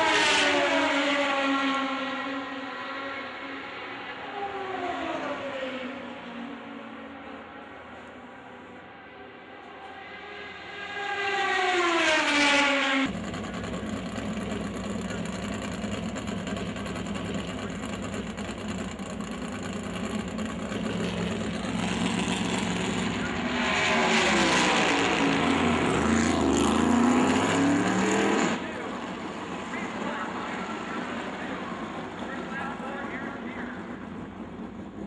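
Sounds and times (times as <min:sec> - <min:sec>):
race car passing: 0:00.0 - 0:35.0
steady engine drone: 0:00.0 - 0:35.0.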